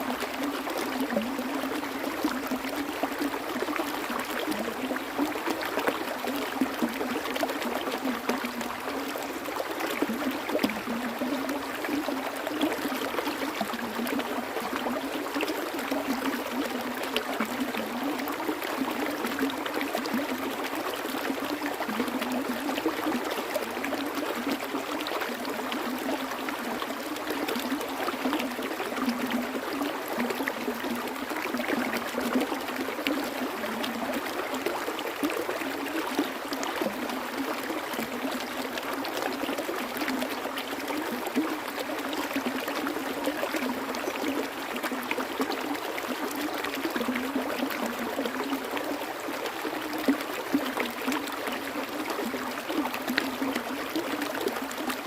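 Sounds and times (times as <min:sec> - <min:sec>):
stream flowing and gurgling: 0:00.0 - 0:55.0.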